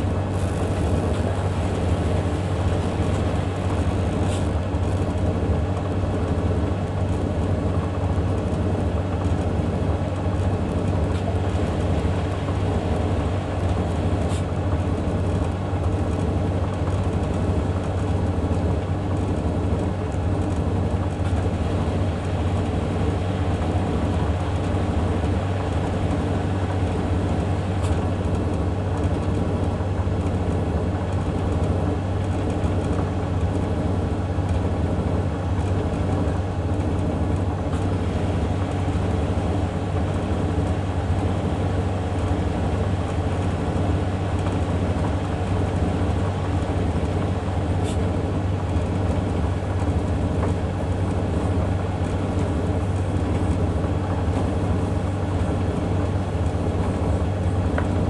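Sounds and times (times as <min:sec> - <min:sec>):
tumble dryer and washing machine hum: 0:00.0 - 0:58.0.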